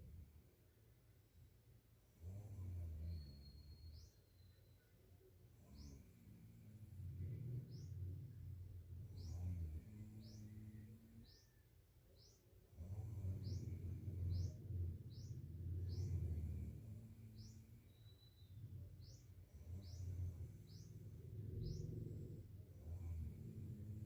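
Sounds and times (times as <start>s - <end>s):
man snoring softly: 2.0s - 4.2s, 5.5s - 11.5s, 12.2s - 24.0s
bird chirping: 2.8s - 24.0s.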